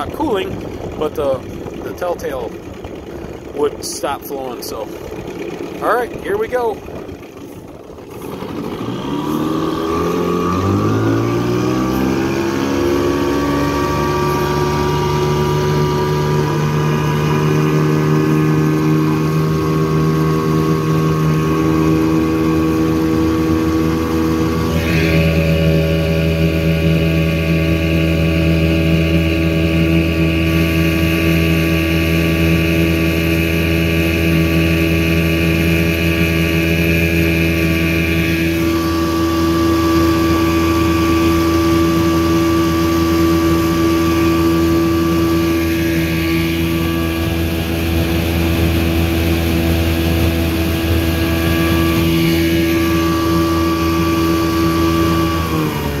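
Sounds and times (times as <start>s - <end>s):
outboard motor running: 0.0s - 56.0s
water rushing past hull: 0.0s - 56.0s.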